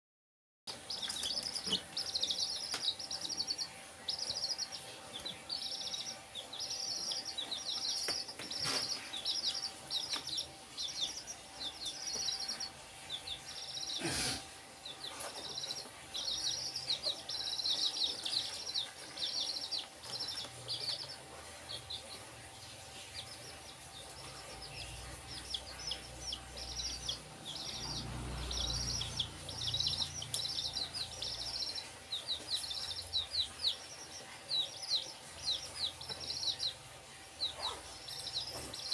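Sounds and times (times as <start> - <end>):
chicks peeping: 0.7 - 38.9.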